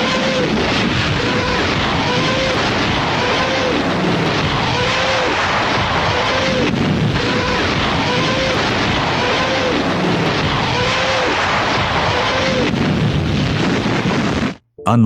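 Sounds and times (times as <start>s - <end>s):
rocket barrage rushing din: 0.0s - 14.6s.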